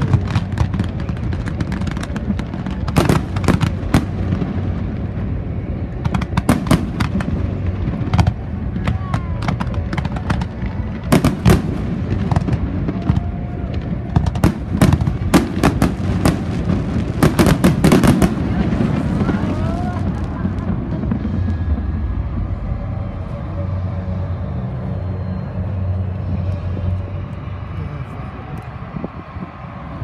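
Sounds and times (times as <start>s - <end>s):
fireworks bangs: 0.0s - 26.8s
steady low rumble: 0.0s - 30.0s.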